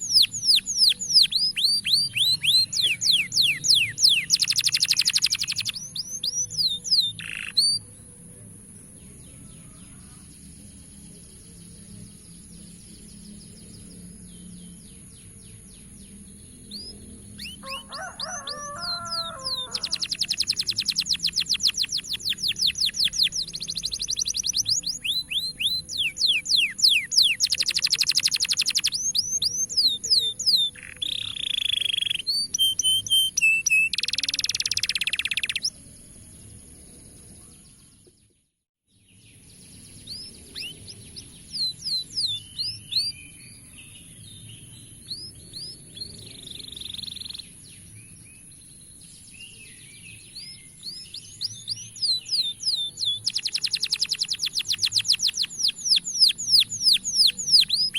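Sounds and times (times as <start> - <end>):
canary singing: 0.0 - 8.0, 12.1 - 35.8, 40.0 - 48.5, 50.1 - 57.9.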